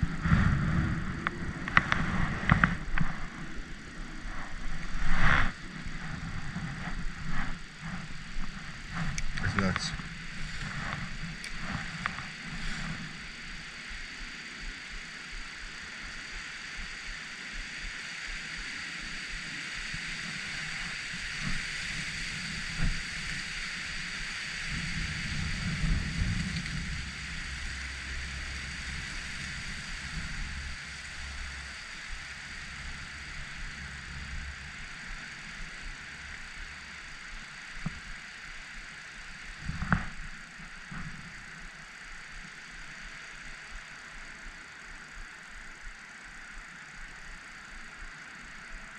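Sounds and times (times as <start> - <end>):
wind buffeting microphone: 0.0 - 41.8
steady hiss: 0.0 - 48.9.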